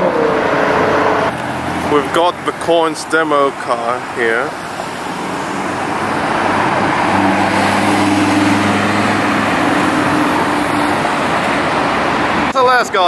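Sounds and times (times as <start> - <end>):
car engine low drone: 0.0 - 12.5
street traffic noise: 0.0 - 13.0.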